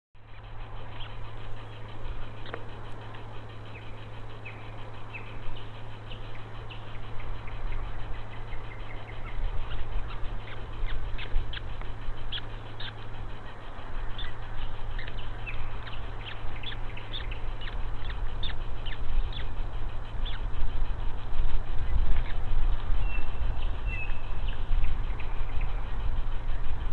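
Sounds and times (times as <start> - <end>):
birds chirping: 0.2 - 26.9
steady low hum: 0.2 - 26.9.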